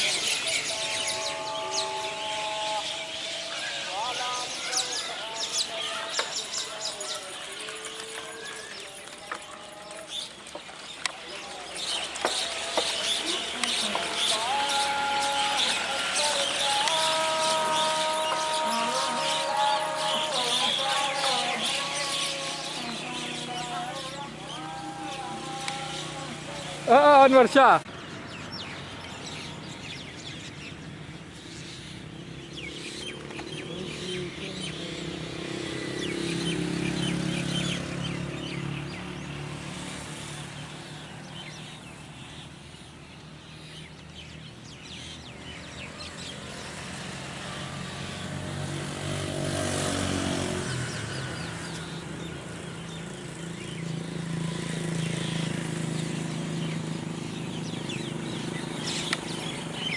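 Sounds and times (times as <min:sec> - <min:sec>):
passing road vehicles: 0:00.0 - 0:59.9
small birds chirping: 0:00.0 - 0:59.9.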